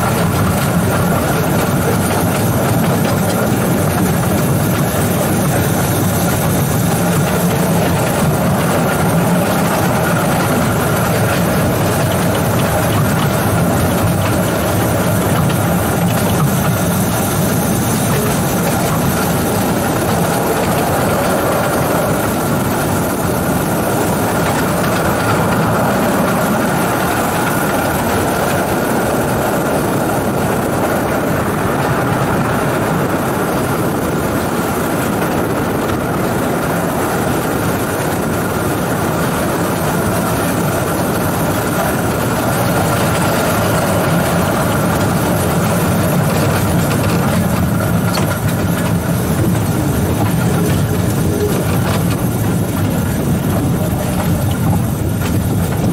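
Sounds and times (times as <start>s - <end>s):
locomotive wheels rumbling on rails: 0.0s - 55.9s
steady whine: 0.0s - 55.9s.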